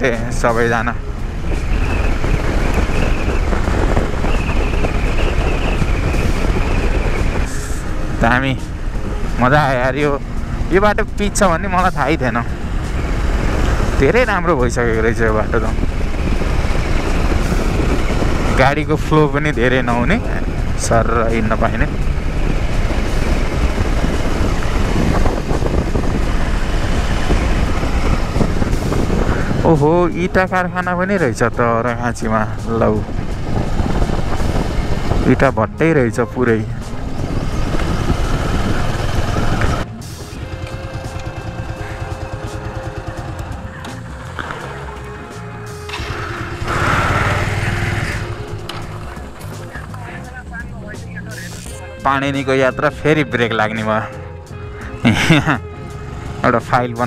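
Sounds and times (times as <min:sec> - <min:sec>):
wind buffeting microphone: 0:00.0 - 0:56.4
motorcycle engine rumble: 0:00.0 - 0:57.0.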